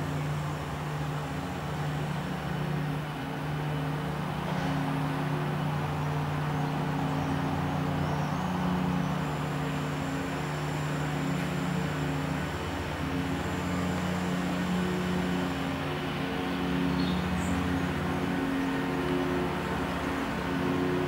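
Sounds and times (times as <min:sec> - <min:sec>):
city traffic noise: 0:00.0 - 0:21.0
low engine hum: 0:00.0 - 0:21.0.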